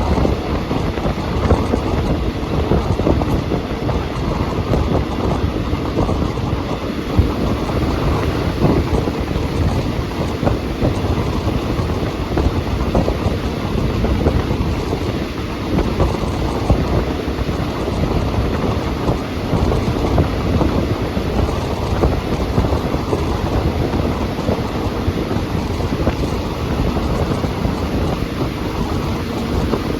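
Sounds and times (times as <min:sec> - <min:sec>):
train wheels rumbling: 0:00.0 - 0:29.9.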